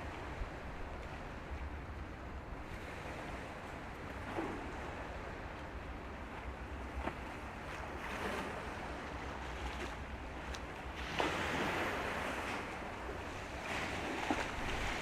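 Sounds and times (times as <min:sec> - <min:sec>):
waves washing: 0:00.0 - 0:15.0.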